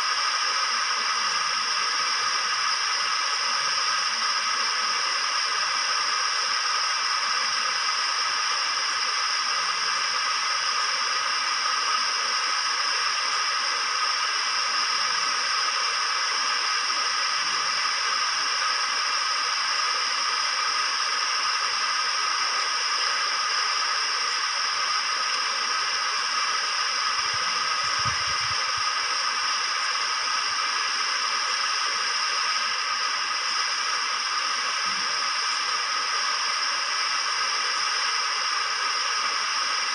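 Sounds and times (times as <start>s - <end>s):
steady hiss of noise: 0.0s - 39.9s.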